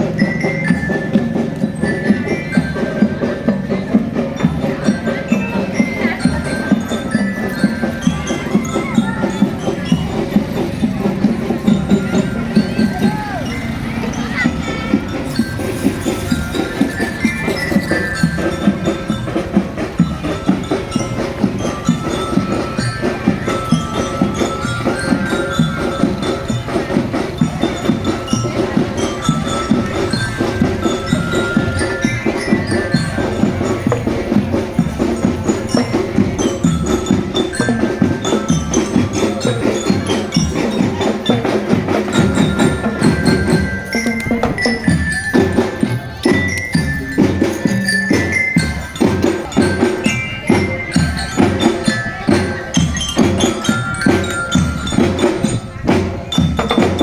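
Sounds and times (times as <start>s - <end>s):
glockenspiel melody: 0.0s - 57.0s
snare and bass drum beats: 0.0s - 57.0s.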